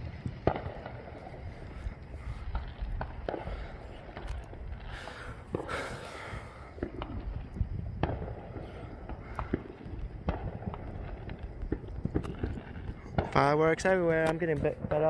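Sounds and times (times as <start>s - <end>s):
fireworks pops and bangs: 0.0s - 15.0s.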